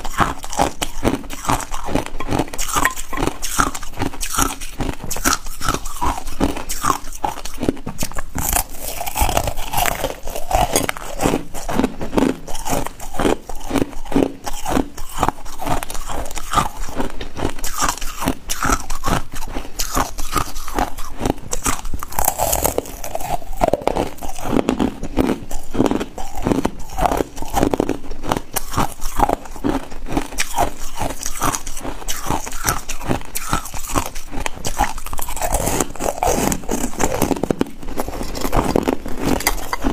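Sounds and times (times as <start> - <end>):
ice crunched between teeth: 0.0 - 39.9.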